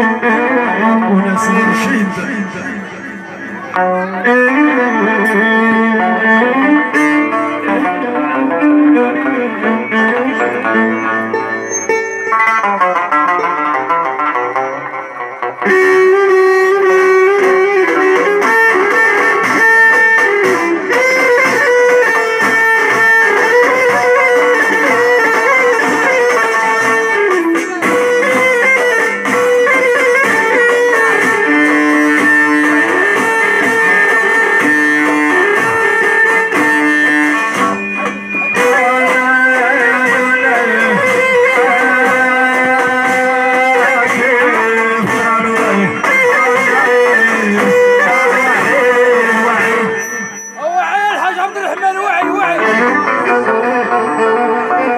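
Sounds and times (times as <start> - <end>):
rapid plucked string music: 0.0 - 54.9.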